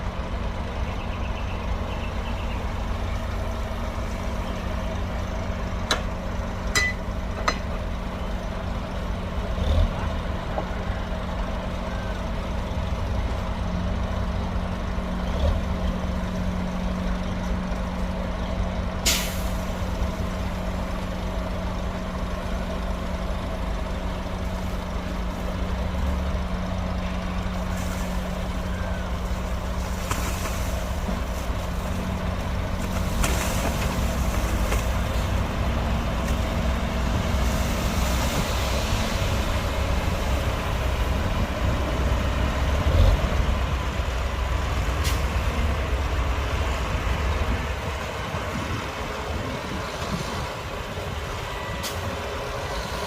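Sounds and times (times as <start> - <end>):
diesel machinery running: 0.0 - 53.0.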